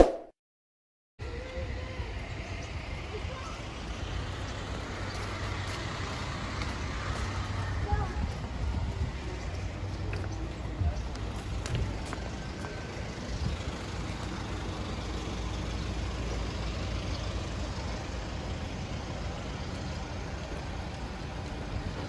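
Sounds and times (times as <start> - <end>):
vehicle engine idling: 1.2 - 22.0.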